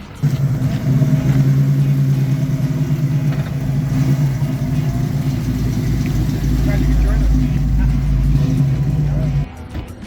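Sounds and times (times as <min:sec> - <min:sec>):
car engine idling: 0:00.0 - 0:09.5.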